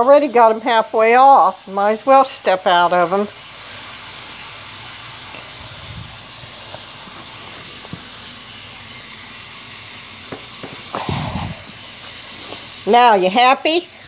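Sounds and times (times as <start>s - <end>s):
tap water running: 0.0s - 14.0s.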